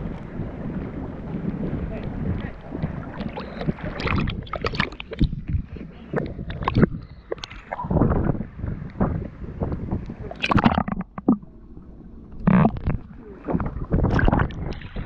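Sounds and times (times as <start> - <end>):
water splashing: 0.0 - 8.3, 9.8 - 15.0
muffled underwater sound: 0.0 - 15.0.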